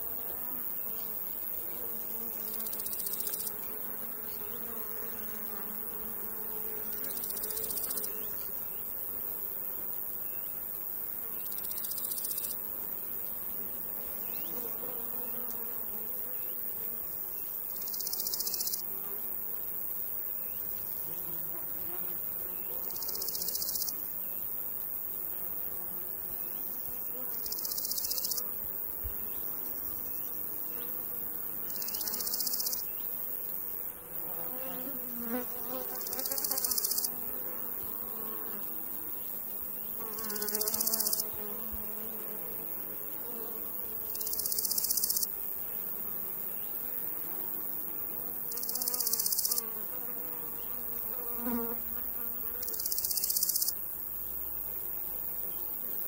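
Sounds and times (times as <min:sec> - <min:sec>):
cricket buzzing trill: 0:00.0 - 0:56.0
flies buzzing past: 0:00.0 - 0:56.0.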